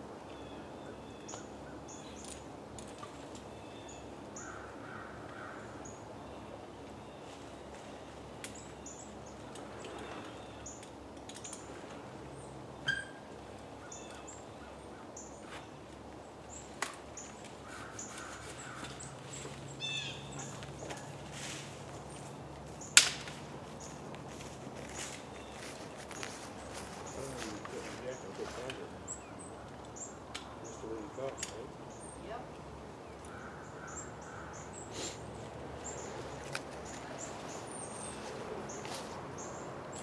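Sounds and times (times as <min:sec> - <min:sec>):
outdoor background noise: 0:00.0 - 0:40.0
birds chirping: 0:00.2 - 0:40.0.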